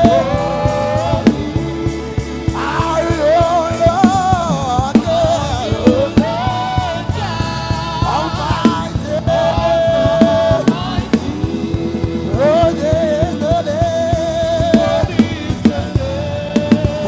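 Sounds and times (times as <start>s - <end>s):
band with drum beats: 0.0s - 17.0s
voices singing gospel: 0.0s - 17.0s.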